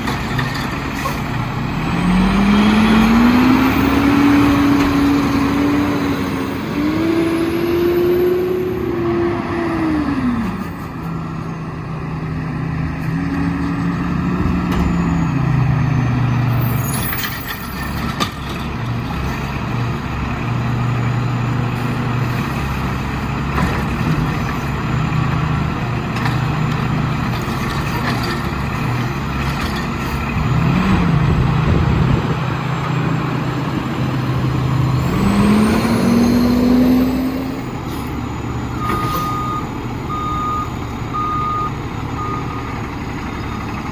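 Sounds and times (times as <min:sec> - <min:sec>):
garbage truck diesel engine: 0:00.0 - 0:43.9.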